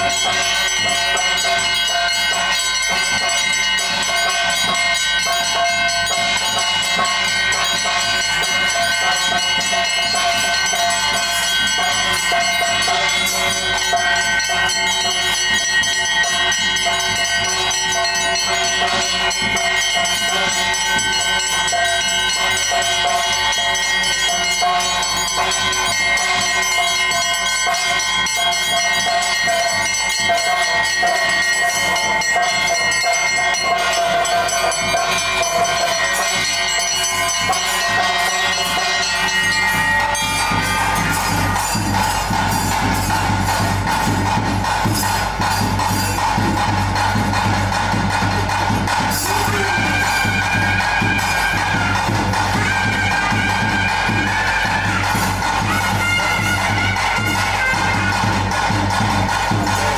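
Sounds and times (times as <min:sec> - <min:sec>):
bells ringing and jingling: 0:00.0 - 0:59.9.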